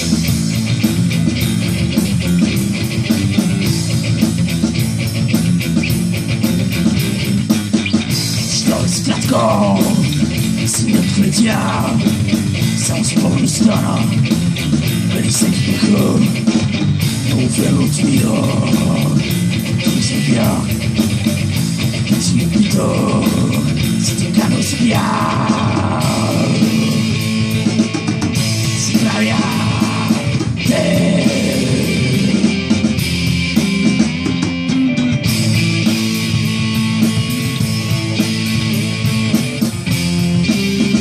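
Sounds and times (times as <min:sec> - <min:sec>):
bass guitar: 0:00.0 - 0:41.0
drum kit: 0:00.0 - 0:41.0
electric guitar: 0:00.0 - 0:41.0.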